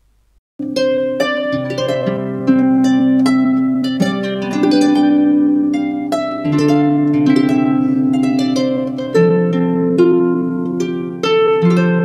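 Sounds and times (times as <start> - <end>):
harp playing slow melody: 0.6 - 12.0.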